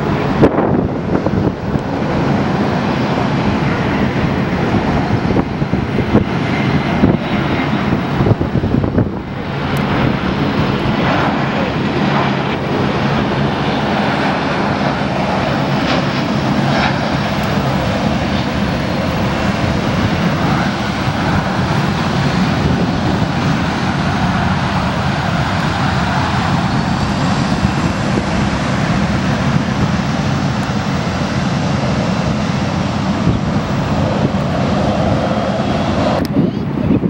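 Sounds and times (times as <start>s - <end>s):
airliner jet engines rushing: 0.0s - 37.0s.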